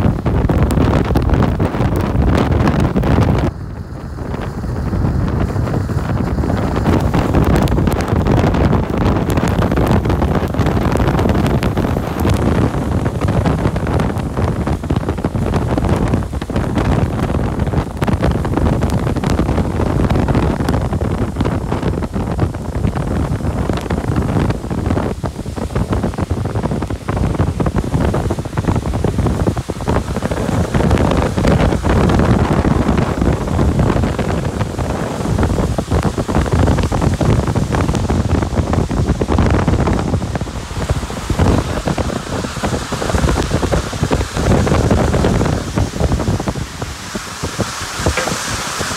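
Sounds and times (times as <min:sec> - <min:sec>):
tyre and wind rush: 0:00.0 - 0:48.9
wind buffeting microphone: 0:00.0 - 0:48.9.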